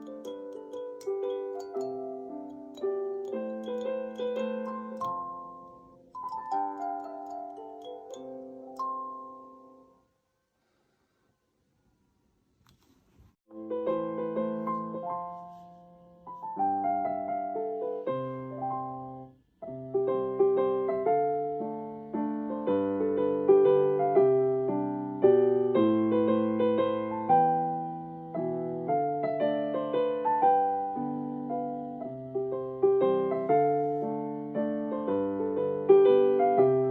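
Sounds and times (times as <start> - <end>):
gentle piano melody: 0.0 - 10.0, 13.5 - 36.9.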